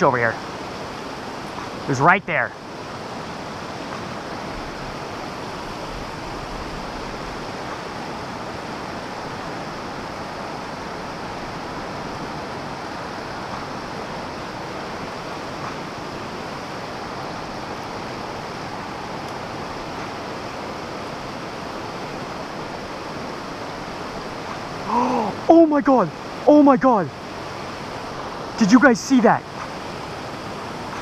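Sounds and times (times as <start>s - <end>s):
creek water flowing: 0.0s - 31.0s.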